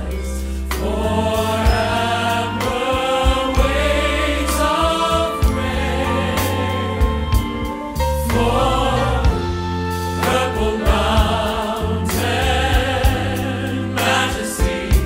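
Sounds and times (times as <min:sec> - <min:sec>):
choir singing held chords: 0:00.0 - 0:15.0
sustained instrumental backing: 0:00.0 - 0:15.0.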